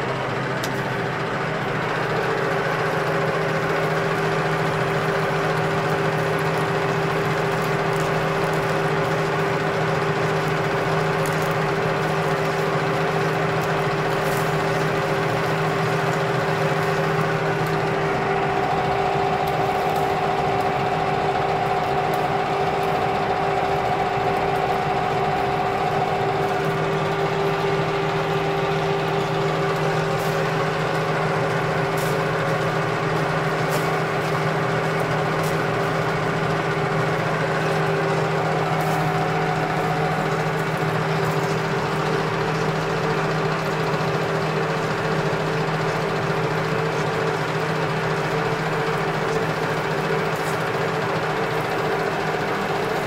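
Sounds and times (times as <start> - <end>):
metal lathe humming: 0.0 - 53.0.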